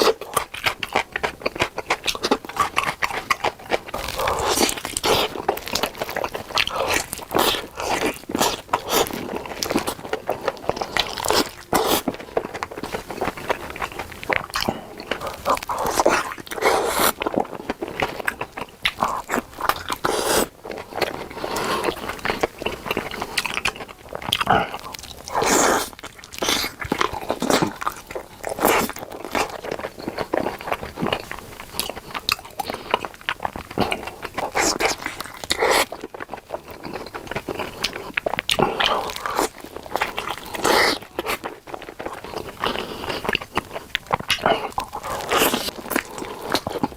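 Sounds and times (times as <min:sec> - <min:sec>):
biting and chewing sausages: 0:00.0 - 0:46.9.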